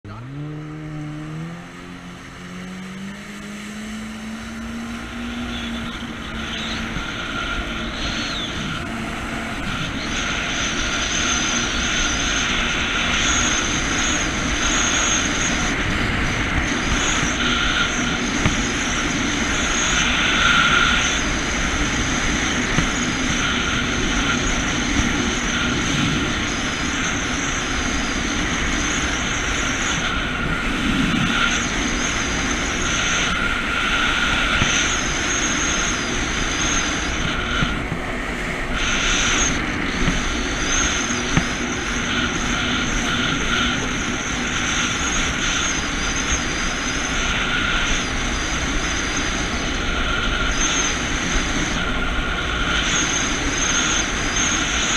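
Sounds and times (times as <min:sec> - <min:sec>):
jet ski engine accelerating: 0:00.0 - 0:54.9
rush of water and wind: 0:00.7 - 0:54.9.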